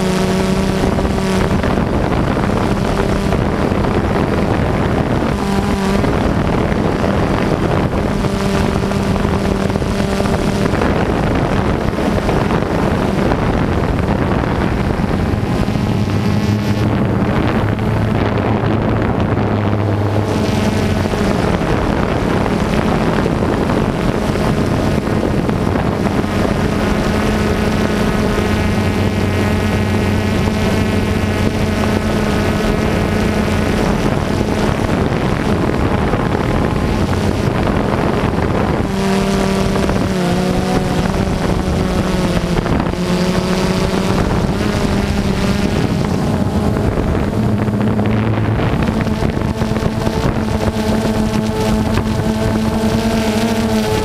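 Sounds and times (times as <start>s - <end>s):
drone motors buzzing: 0.0s - 54.0s
wind noise on microphone: 0.0s - 54.0s.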